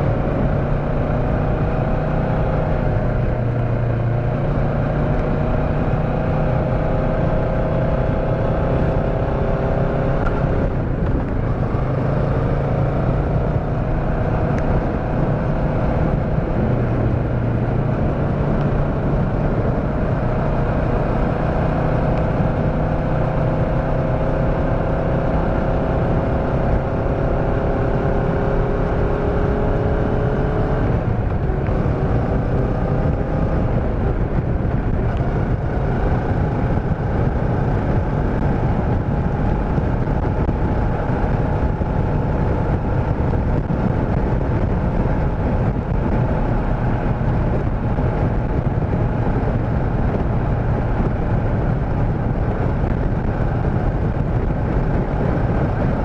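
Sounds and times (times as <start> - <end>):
motorcycle engine running: 0.0 - 56.0
road rumble: 0.0 - 56.0
wind: 0.0 - 56.0.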